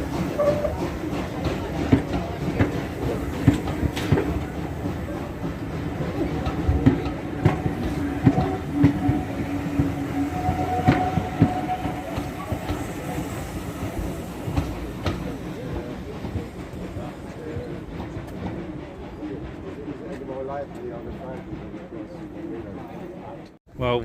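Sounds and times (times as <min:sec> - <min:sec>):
train rumble: 0:00.0 - 0:23.6
train wheels clicking on rail joints: 0:00.0 - 0:23.6.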